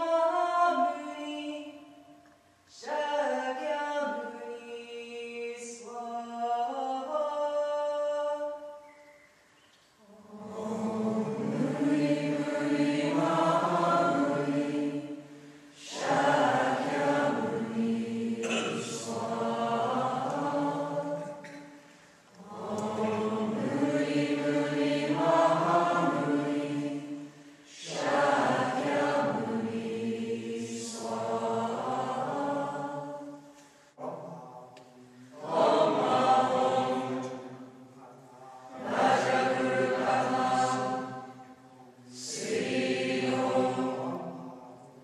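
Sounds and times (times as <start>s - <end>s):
voices singing a slow chant: 0.0s - 45.0s.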